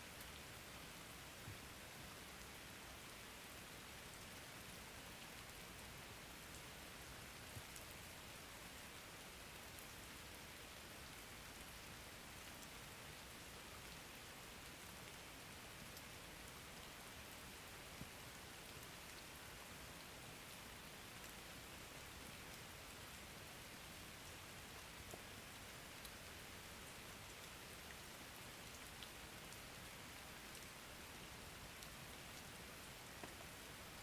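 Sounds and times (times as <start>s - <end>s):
faint steady rain: 0.0s - 34.0s.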